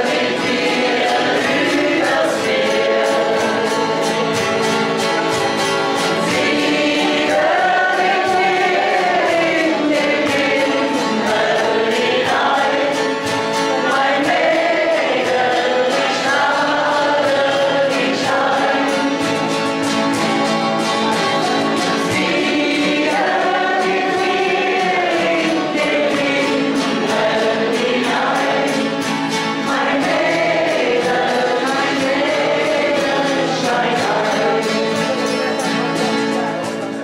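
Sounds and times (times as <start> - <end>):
group singing a folk song: 0.0 - 36.7
strummed acoustic guitars: 0.0 - 37.0.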